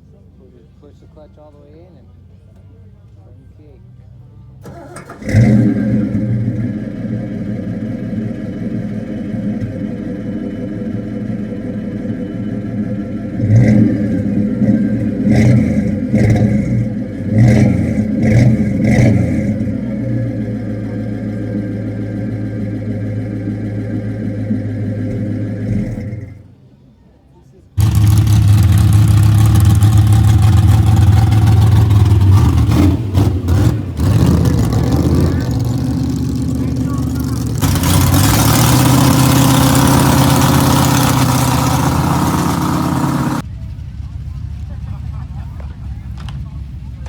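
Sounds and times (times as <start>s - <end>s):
car engine revving: 4.6s - 26.6s, 27.8s - 47.0s.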